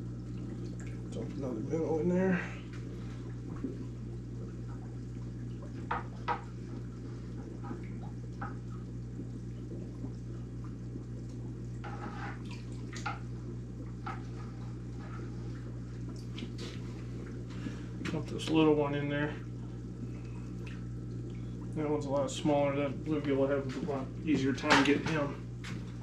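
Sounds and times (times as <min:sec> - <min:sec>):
aquarium pump humming: 0:00.0 - 0:26.0
water bubbling: 0:00.0 - 0:26.0
water drips and splashes: 0:00.0 - 0:26.0.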